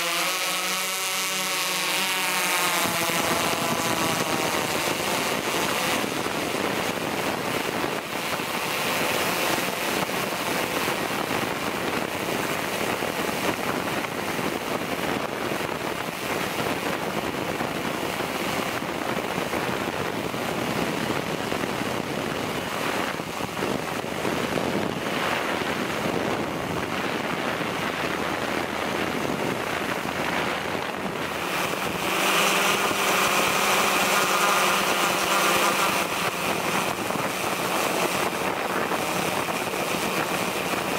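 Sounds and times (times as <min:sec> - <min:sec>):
wind noise on microphone: 0:00.0 - 0:40.9.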